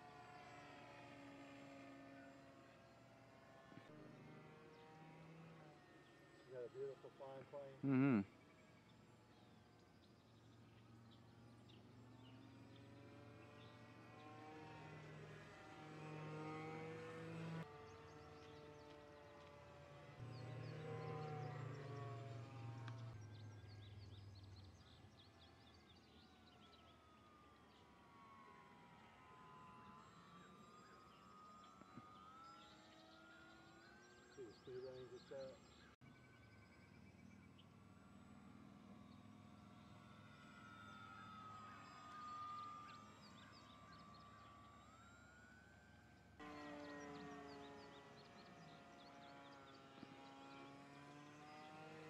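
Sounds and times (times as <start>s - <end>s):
electric motor whine: 0.0s - 6.5s, 7.6s - 24.0s, 24.7s - 52.0s.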